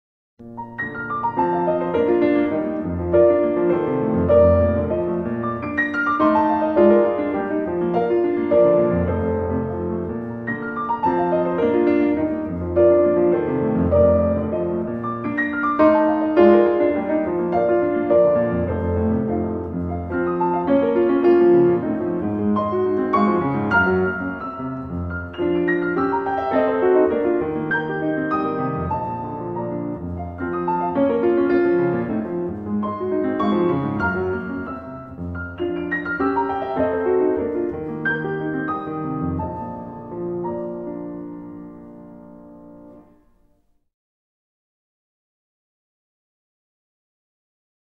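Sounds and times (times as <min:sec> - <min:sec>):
solo piano music: 0:00.4 - 0:43.8.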